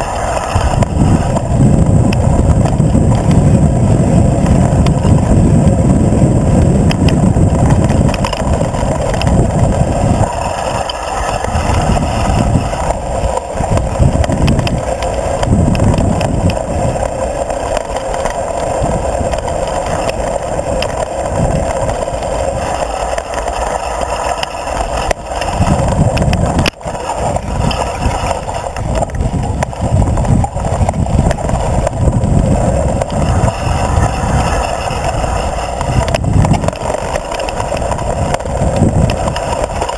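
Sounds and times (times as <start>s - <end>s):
bike rattling over bumps: 0.0s - 39.9s
bike tyre noise on dirt: 0.0s - 39.9s
wind buffeting microphone: 0.0s - 39.9s.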